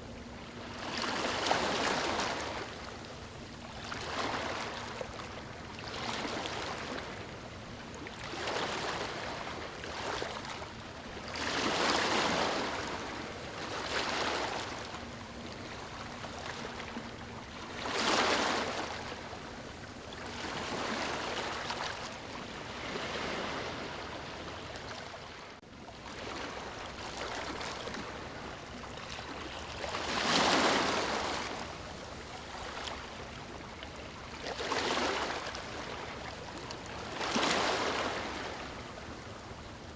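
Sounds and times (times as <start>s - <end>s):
small waves breaking on beach: 0.0s - 7.4s, 8.1s - 39.9s.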